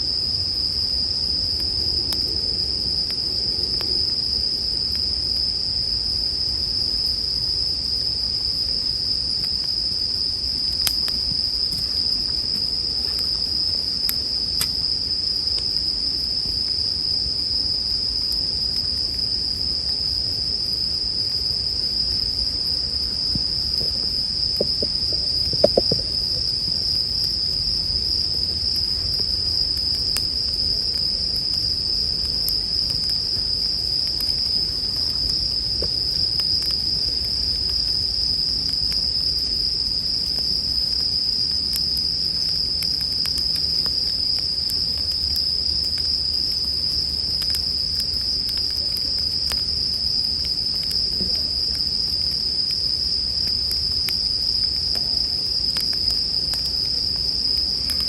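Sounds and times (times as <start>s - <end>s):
campfire crackling: 0.0s - 58.0s
crickets trilling: 0.0s - 58.0s.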